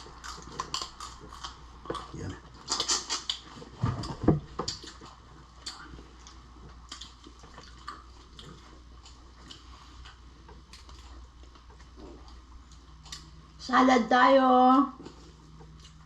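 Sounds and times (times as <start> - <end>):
person chewing seafood: 0.0 - 13.6, 15.1 - 16.0.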